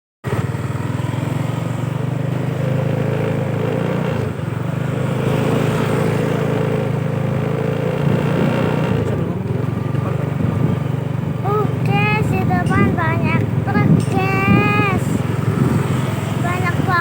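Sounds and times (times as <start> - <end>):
truck engine running: 0.3 - 17.0.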